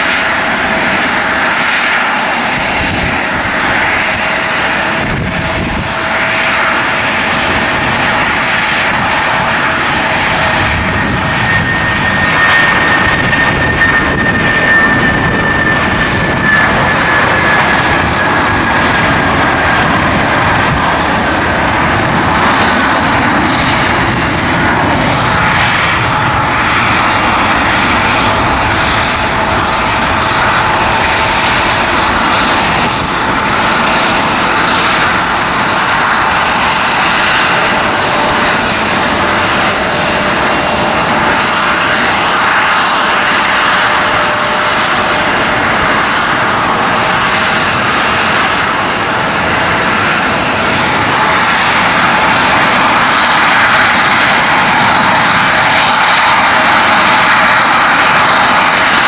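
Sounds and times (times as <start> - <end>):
airplane engines running: 0.0 - 59.0.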